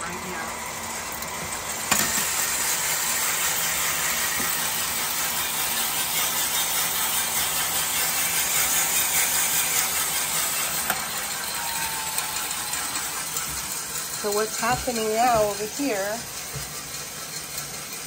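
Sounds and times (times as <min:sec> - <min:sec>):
coffee beans rattling in drum: 0:00.0 - 0:18.0.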